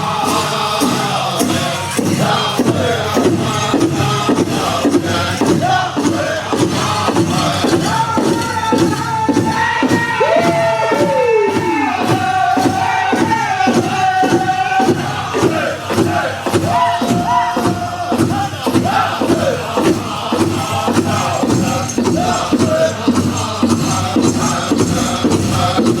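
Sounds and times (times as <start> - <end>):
big drum steady beat: 0.0 - 26.0
drum group singing high voices: 0.0 - 26.0.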